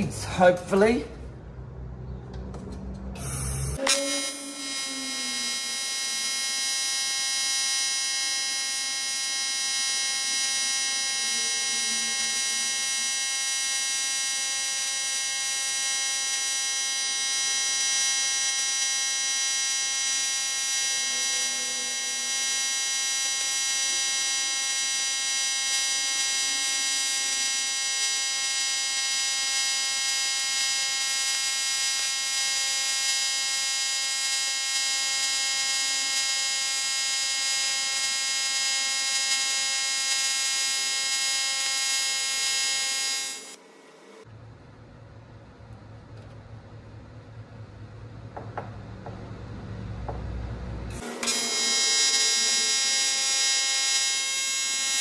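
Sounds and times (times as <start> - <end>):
welding arc buzzing: 3.2 - 44.3, 50.8 - 55.0.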